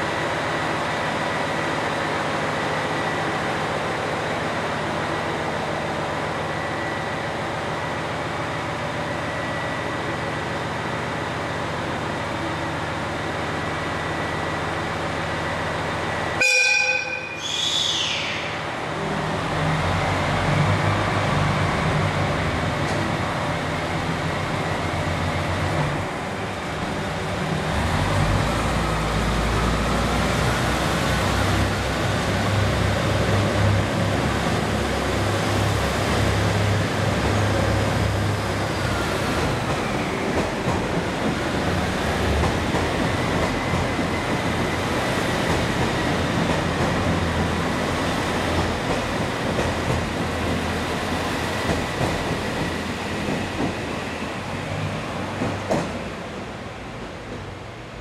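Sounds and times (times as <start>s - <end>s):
diesel train engine rumble: 0.0s - 58.0s.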